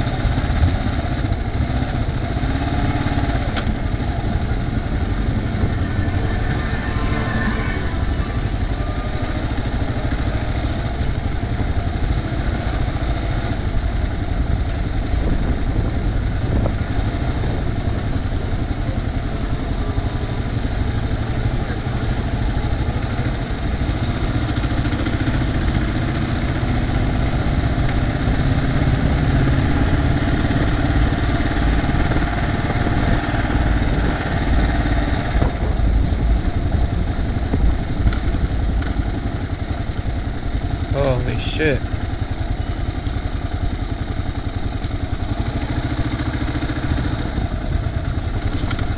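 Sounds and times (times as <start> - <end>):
motorcycle engine running at low speed: 0.0 - 48.9.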